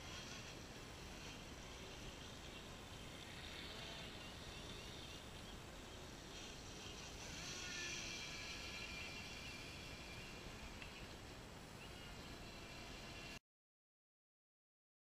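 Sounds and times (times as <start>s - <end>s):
distant electric boat motor whine: 0.0s - 13.4s.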